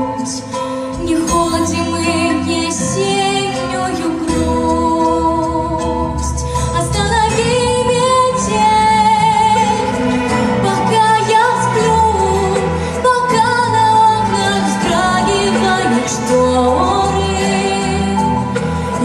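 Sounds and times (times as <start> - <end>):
backing track: 0.0 - 19.0
woman singing pop song: 0.0 - 19.0.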